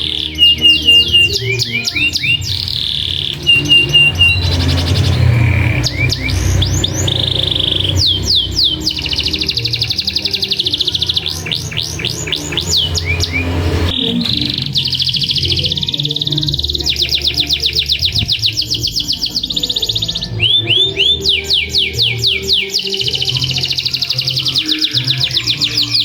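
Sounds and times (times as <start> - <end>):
canary singing trills and whistles: 0.0 - 26.0.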